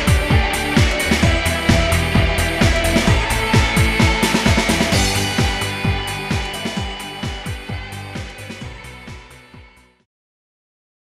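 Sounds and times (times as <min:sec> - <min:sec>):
background music with kick-drum beat: 0:00.0 - 0:10.0.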